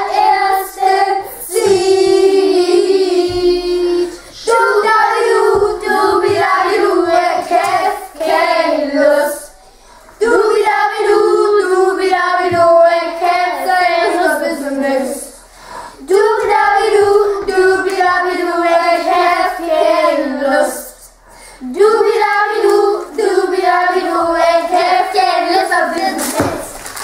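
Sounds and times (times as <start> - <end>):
children singing: 0.0 - 26.8.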